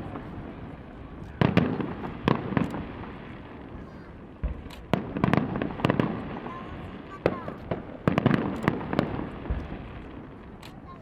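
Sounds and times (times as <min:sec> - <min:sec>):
fireworks bangs echoing: 0:00.0 - 0:11.0.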